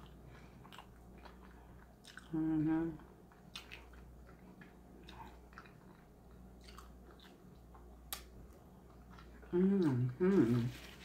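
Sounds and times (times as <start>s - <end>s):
person chewing food: 0.0s - 2.4s, 3.0s - 10.0s.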